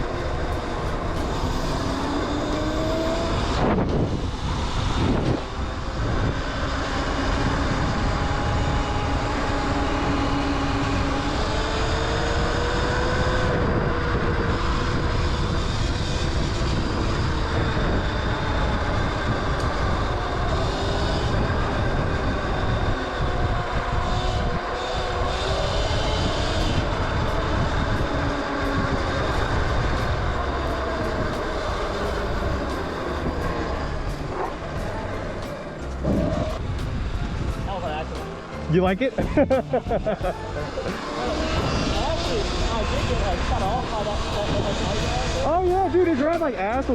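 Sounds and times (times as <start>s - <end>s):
electric motor whining: 0.0s - 46.9s
wind rush on microphone: 0.0s - 46.9s.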